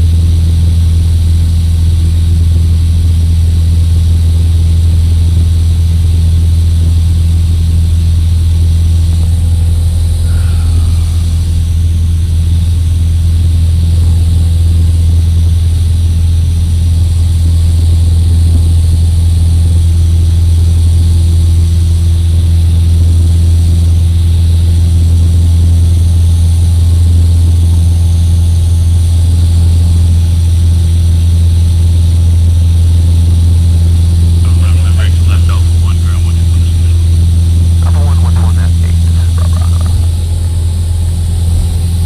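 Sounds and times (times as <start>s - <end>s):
propeller plane engine drone: 0.0s - 42.0s.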